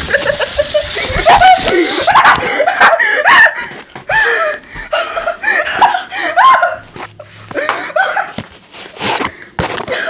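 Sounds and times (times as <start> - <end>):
man laughing hard: 0.0 - 8.5.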